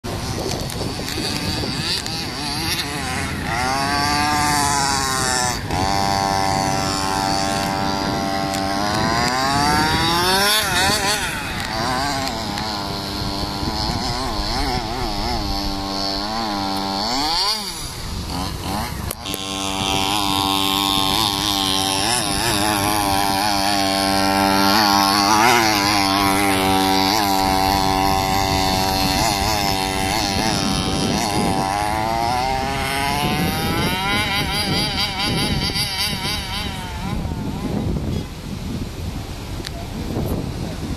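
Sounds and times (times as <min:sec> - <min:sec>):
model engine revving: 0:00.0 - 0:38.4.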